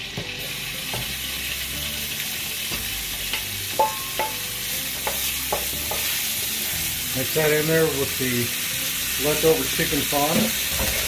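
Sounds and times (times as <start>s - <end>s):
pork sizzling in hot fat: 0.0s - 11.0s.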